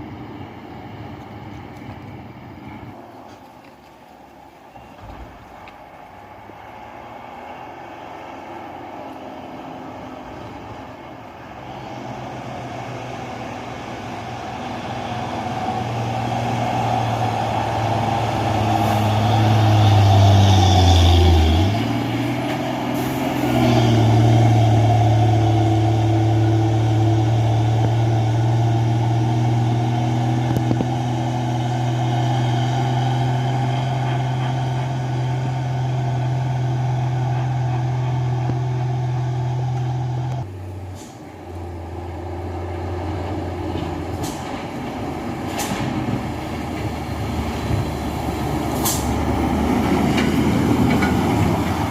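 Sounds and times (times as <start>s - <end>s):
dump truck engine labouring: 0.0s - 51.9s.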